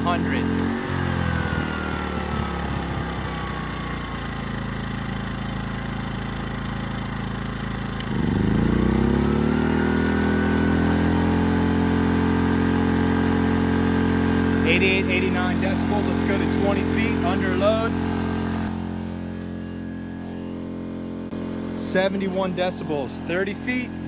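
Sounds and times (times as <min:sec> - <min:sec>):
generator engine revving: 0:00.0 - 0:24.0.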